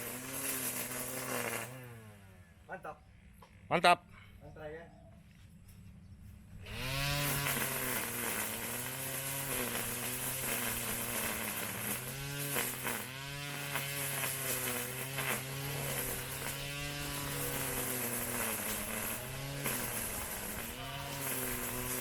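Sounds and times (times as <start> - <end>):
grass trimmer engine revving: 0.0 - 2.6, 6.6 - 22.0.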